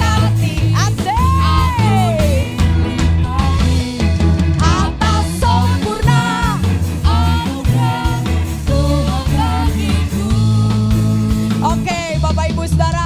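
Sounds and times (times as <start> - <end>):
drum kit: 0.0 - 13.0
person singing: 0.0 - 13.0
worship band playing: 0.0 - 13.0.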